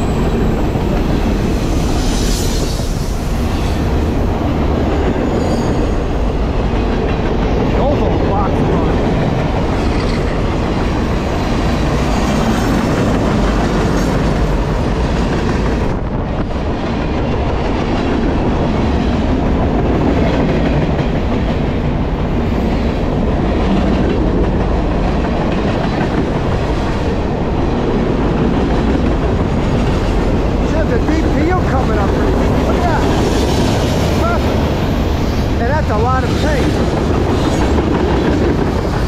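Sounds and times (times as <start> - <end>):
freight train wheels on track: 0.0 - 39.0.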